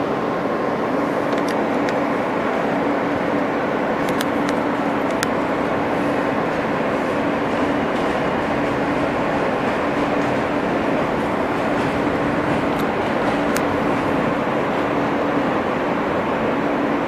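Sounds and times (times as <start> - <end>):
even hum: 0.0 - 17.0
subway wheels rumbling on rails: 0.0 - 17.0.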